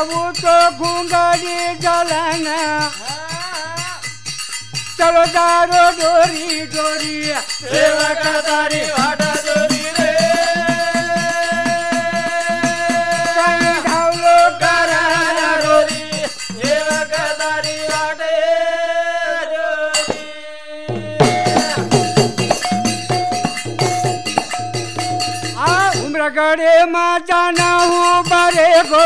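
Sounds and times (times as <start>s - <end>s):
percussion beat: 0.0s - 18.7s, 19.9s - 26.4s, 27.4s - 29.0s.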